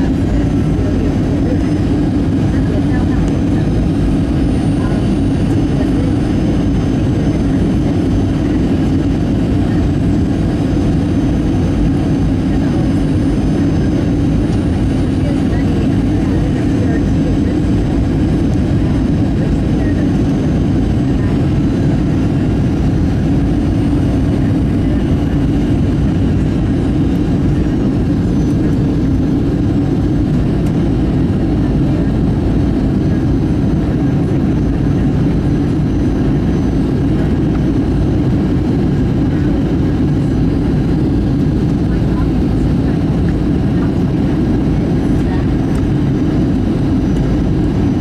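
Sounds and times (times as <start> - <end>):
airplane cabin engine hum: 0.0 - 48.0.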